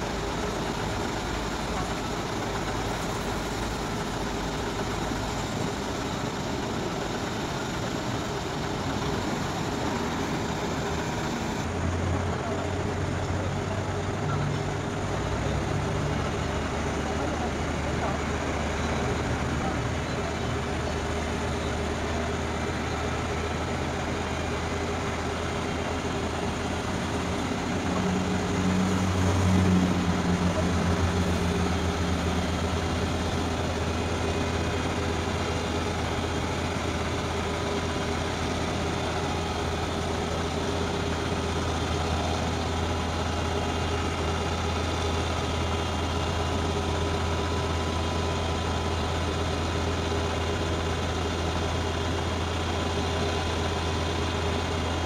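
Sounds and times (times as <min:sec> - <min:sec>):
crane diesel engine running: 0:00.0 - 0:55.0.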